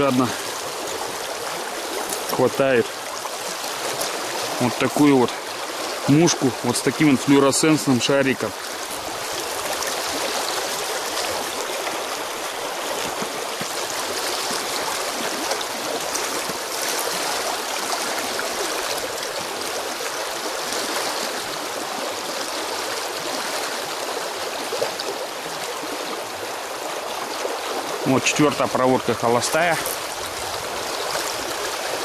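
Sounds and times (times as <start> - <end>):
river rushing and splashing: 0.0 - 32.0.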